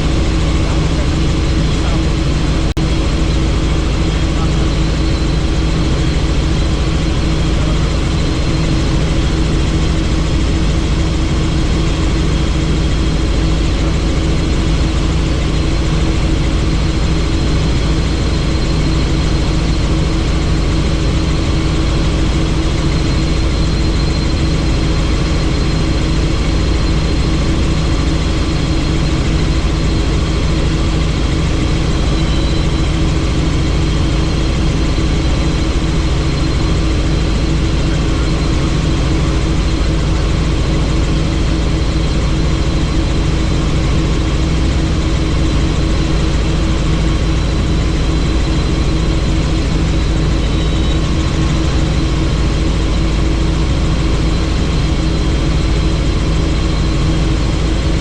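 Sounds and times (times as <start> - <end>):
helicopter rotor and engine drone: 0.0 - 58.0
high whine: 0.0 - 58.0.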